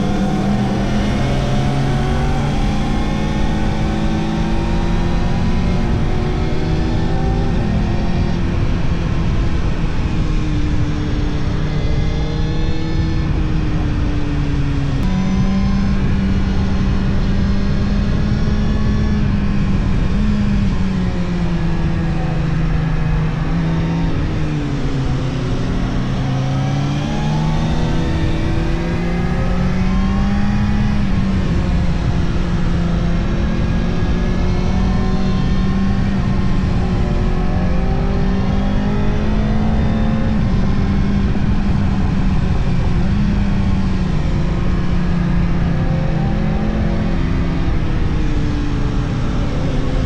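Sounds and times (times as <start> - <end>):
motorcycle engine running: 0.0 - 10.9, 13.0 - 50.0
wind and road noise: 0.0 - 50.0.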